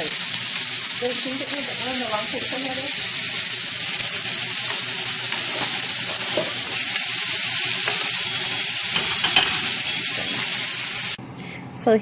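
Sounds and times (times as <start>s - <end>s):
steaks sizzling on a grill: 0.0s - 11.2s.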